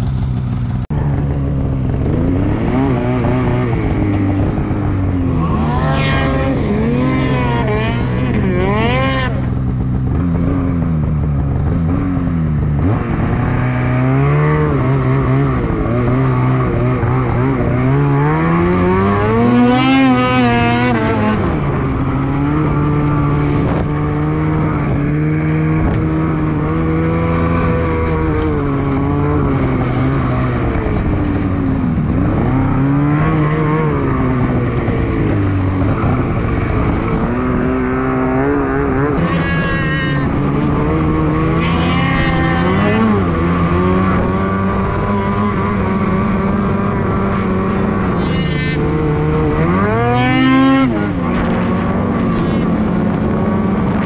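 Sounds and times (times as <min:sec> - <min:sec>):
snowmobile engine revving: 0:00.6 - 0:54.0.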